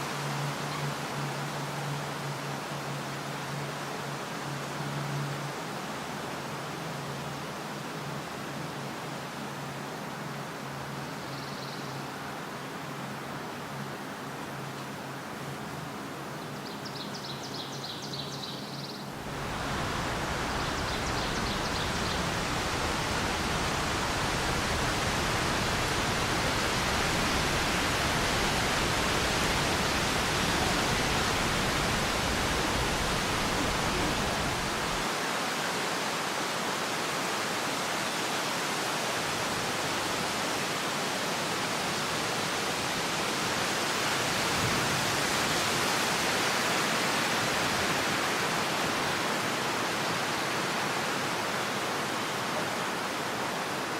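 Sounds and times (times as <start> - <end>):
rushing running water: 0.0 - 11.2, 18.5 - 53.9.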